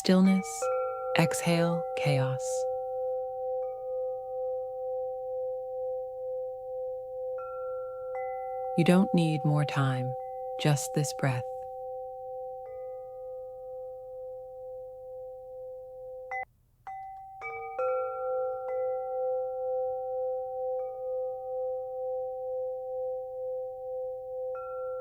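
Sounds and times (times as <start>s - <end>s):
singing bowl meditation music: 0.0s - 25.0s.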